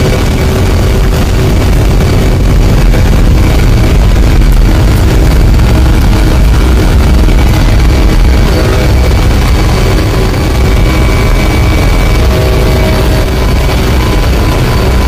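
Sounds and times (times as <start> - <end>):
faint steady engine whine: 0.0 - 15.0
jet engines deep rumble: 0.0 - 15.0.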